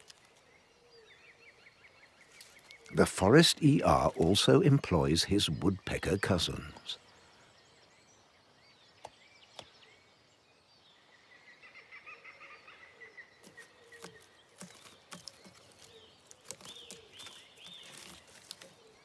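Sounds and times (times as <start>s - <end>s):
woodland birdsong trill: 0.0s - 19.0s.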